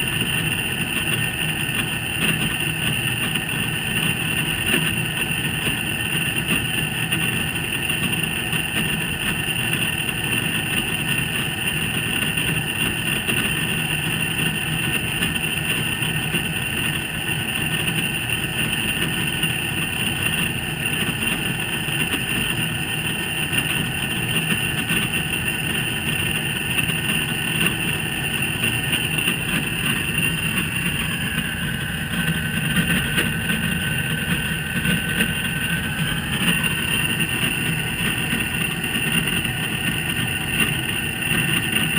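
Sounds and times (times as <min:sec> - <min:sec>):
high whine: 0:00.0 - 0:41.9.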